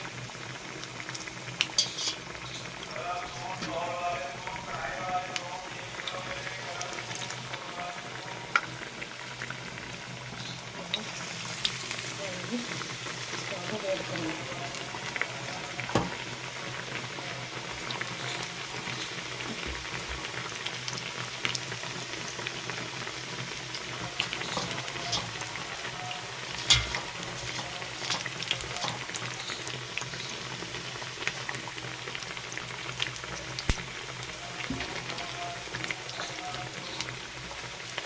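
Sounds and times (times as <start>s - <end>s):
food frying in hot oil: 0.0s - 38.0s.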